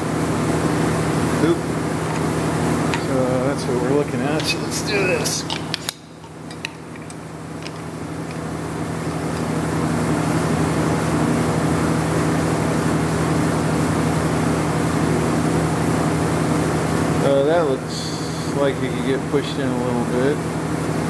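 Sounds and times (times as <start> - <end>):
mechanical drone with low hum: 0.0 - 21.0.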